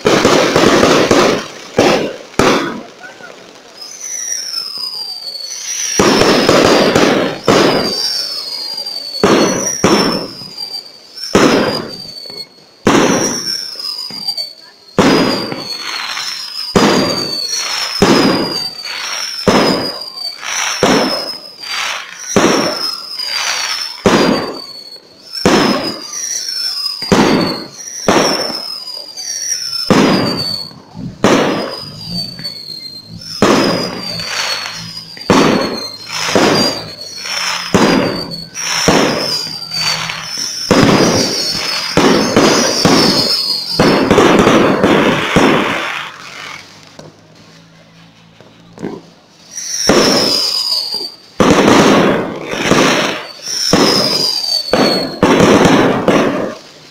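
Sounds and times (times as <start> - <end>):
falling fireworks whistle: 0.0 - 56.9
fireworks bursting: 0.0 - 56.9.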